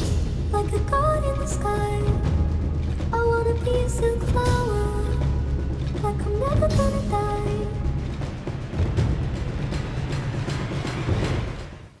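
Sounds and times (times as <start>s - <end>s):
music with heavy bass and drums: 0.0s - 12.0s.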